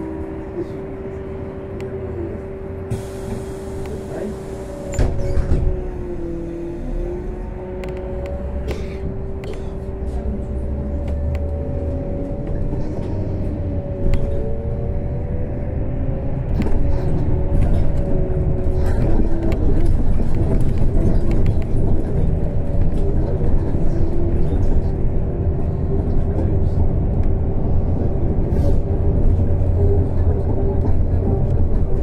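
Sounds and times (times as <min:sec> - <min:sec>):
low road rumble: 0:00.0 - 0:32.0.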